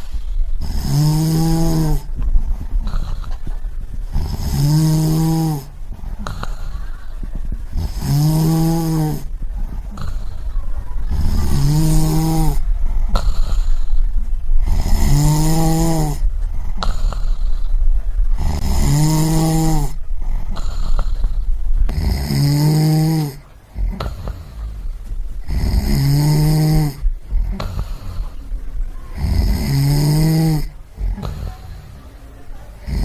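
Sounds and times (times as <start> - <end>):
person snoring: 0.0 - 2.1, 4.1 - 24.8, 25.4 - 28.4, 29.2 - 32.0, 32.8 - 33.0.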